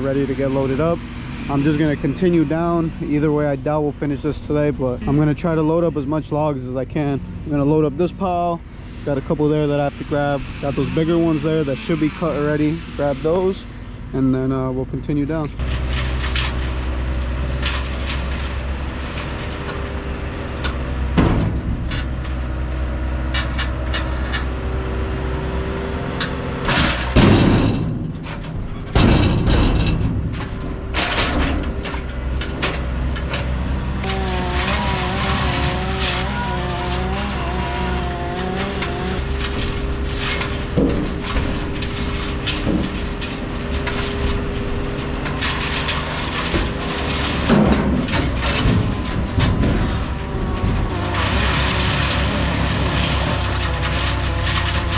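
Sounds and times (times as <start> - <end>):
clunks of logs being loaded: 0.0 - 54.9
diesel engine running: 0.0 - 54.9.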